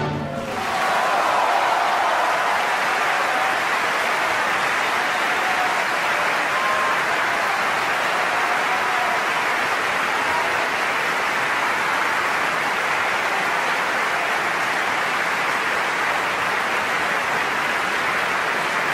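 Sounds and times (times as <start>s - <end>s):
audience applauding: 0.3s - 18.9s.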